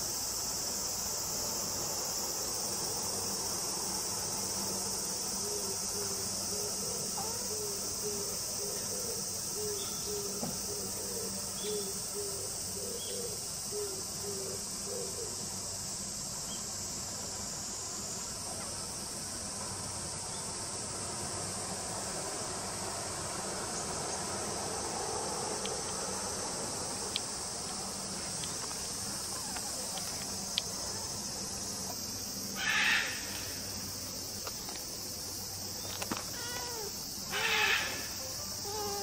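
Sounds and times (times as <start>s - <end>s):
cicadas buzzing: 0.0s - 39.0s.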